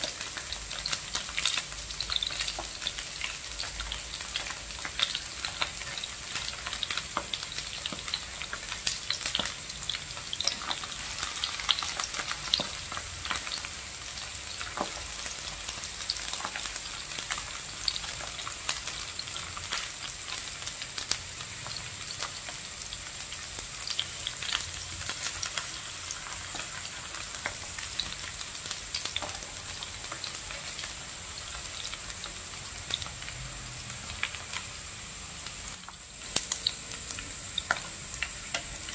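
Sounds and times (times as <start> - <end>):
slices sizzling in hot oil: 0.0 - 38.9.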